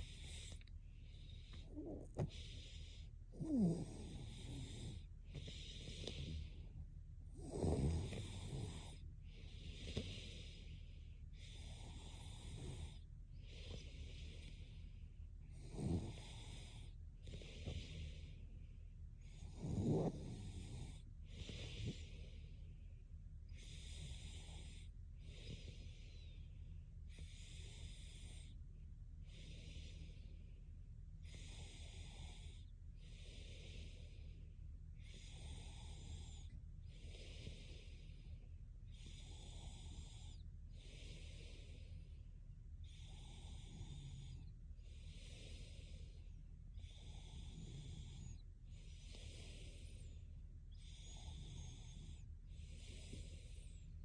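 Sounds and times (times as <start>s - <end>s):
low steady hum: 0.0s - 54.0s
woman breathing slowly: 0.0s - 54.0s.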